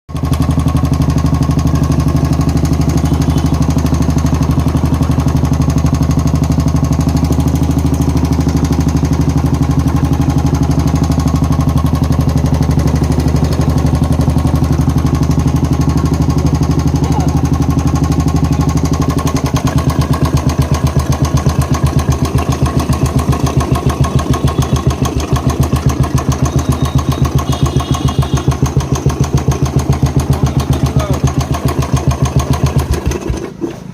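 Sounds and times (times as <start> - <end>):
motorcycle engine thumping idle: 0.1 - 33.8.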